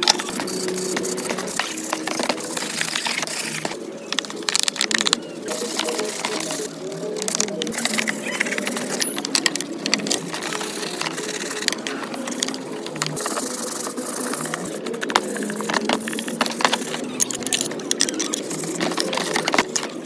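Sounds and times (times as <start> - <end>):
hand tools on metal: 0.0 - 20.0.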